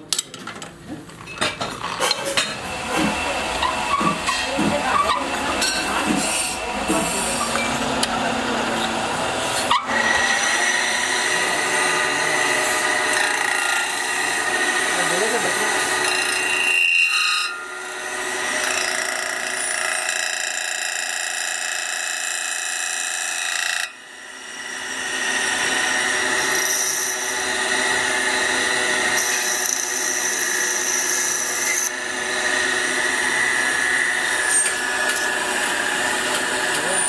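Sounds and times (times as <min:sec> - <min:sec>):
cutting tool scraping metal: 0:01.6 - 0:24.0, 0:25.1 - 0:37.0
metal lathe machining whine: 0:02.7 - 0:21.8, 0:23.1 - 0:37.0.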